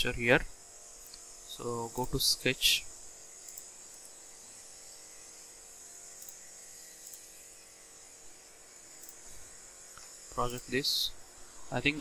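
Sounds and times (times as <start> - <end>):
background hiss and buzz: 0.0 - 12.0.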